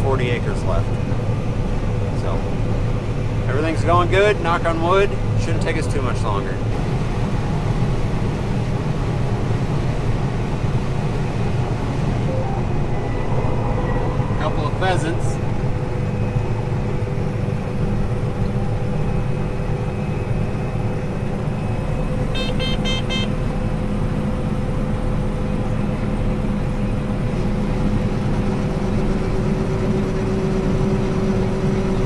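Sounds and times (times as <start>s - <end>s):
combine harvester running: 0.0s - 32.0s.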